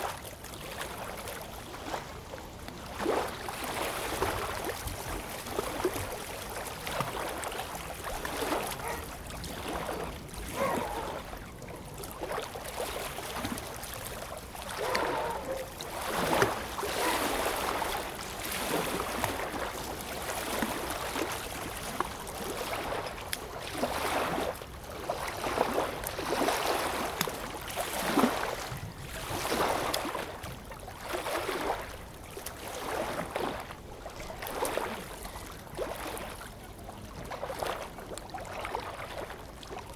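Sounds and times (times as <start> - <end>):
lake waves lapping at shore: 0.0 - 39.9.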